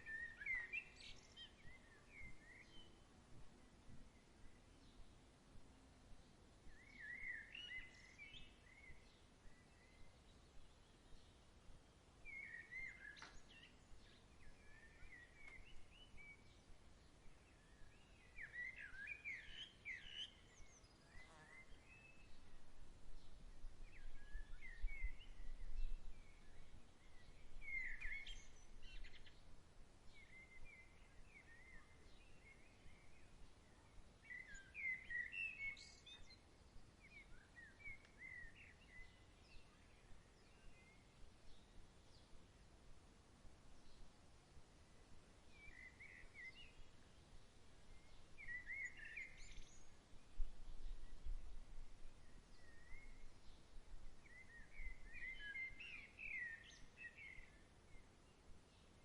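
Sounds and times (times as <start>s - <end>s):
birds chirping faintly: 0.0s - 59.0s
low rumble of breeze: 0.0s - 59.0s.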